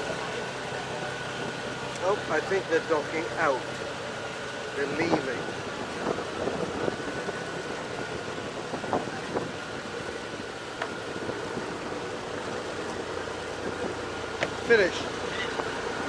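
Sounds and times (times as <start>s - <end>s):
ferry engine humming: 0.0s - 16.0s
water noise: 0.0s - 16.0s.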